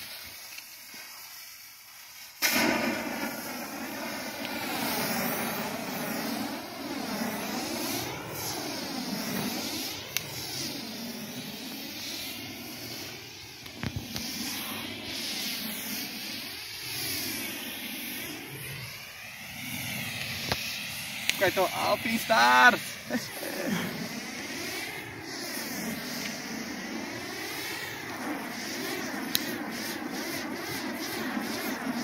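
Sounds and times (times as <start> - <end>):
pyrotechnic torch hissing: 0.0 - 32.0
sharp crackle: 0.0 - 32.0
torch igniting whoosh: 0.0 - 32.0.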